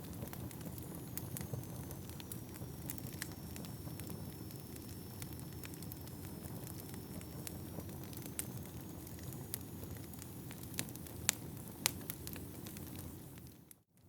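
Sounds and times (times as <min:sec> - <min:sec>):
wood fire flames rushing: 0:00.0 - 0:13.6
fire crackling and popping: 0:00.0 - 0:14.0.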